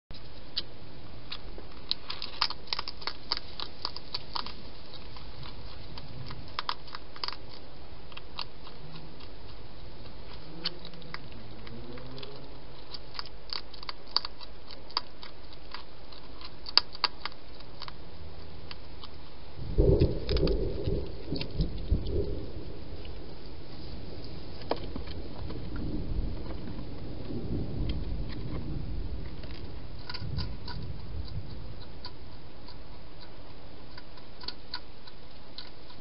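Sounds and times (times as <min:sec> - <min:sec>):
hedgehog crunching food: 0:00.2 - 0:36.0
steady background hiss: 0:00.2 - 0:36.0.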